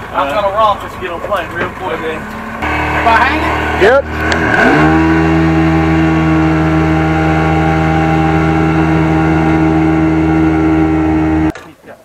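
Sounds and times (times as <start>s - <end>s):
outboard motor running at high speed: 1.6s - 11.5s.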